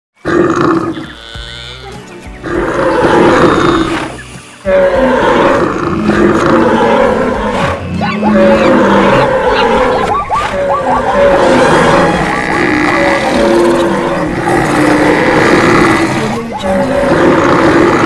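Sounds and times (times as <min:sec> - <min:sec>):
animal roars and calls: 0:00.2 - 0:18.0
music: 0:00.2 - 0:18.0
stampede din: 0:02.4 - 0:18.0.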